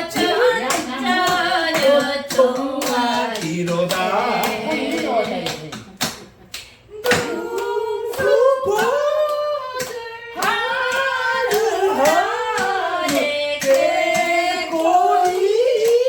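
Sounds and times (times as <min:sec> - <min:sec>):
hands clapping to the beat: 0:00.0 - 0:16.0.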